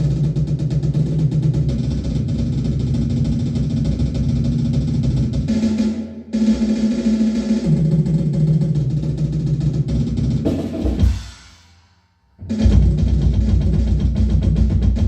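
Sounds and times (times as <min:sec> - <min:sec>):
fast drum-kit playing: 0:00.0 - 0:11.8, 0:12.4 - 0:15.0.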